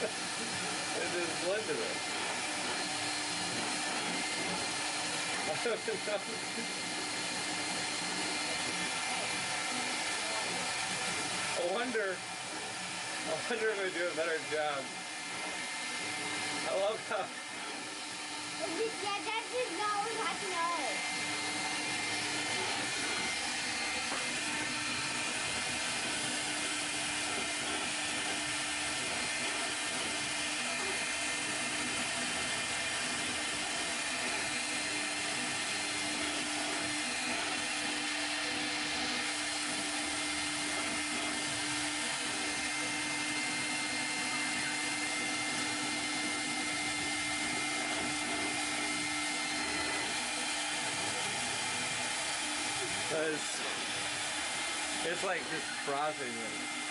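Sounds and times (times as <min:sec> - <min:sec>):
spindle motor whine and hum: 0:00.0 - 0:56.9.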